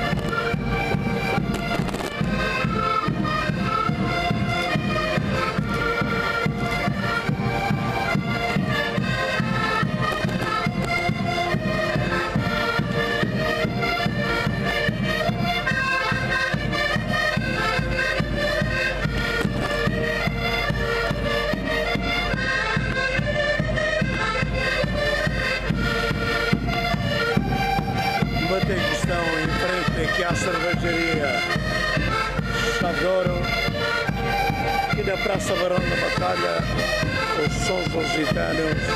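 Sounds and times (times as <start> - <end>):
accordions playing folk music: 0.0 - 38.9
bass drum beating: 0.0 - 38.9.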